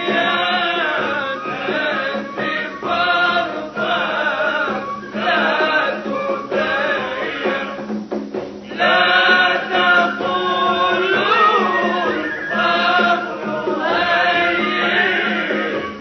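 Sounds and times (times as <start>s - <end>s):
person singing devotional song: 0.0s - 7.9s, 8.7s - 16.0s.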